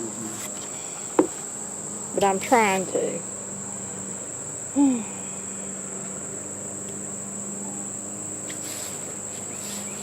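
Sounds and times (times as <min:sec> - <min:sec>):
high-pitched insect trill: 0:00.0 - 0:10.0
honey bees buzzing: 0:00.0 - 0:10.0.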